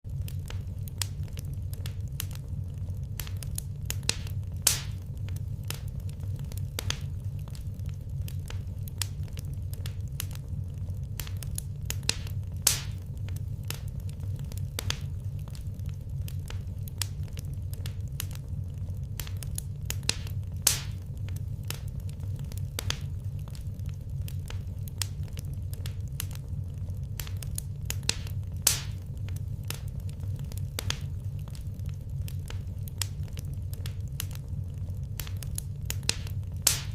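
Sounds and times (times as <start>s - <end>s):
low fire rumble: 0.0s - 36.9s
wood fire crackling and popping: 0.0s - 36.9s.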